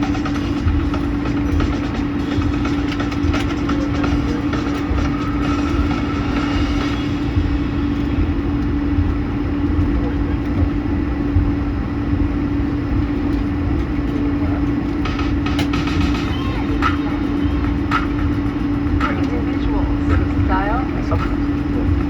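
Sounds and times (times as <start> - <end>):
aircraft cabin engine drone: 0.0 - 22.0.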